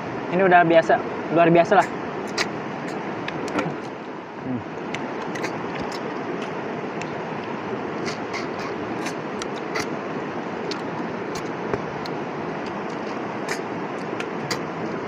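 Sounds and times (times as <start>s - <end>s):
flowing river rushing: 0.0s - 15.0s.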